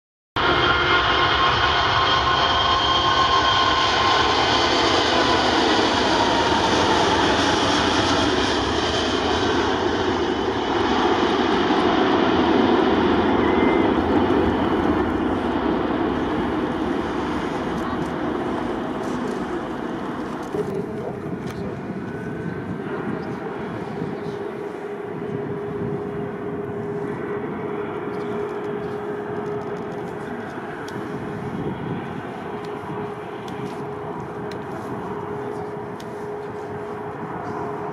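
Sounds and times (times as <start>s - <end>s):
jet engines roaring at takeoff: 0.4s - 37.9s.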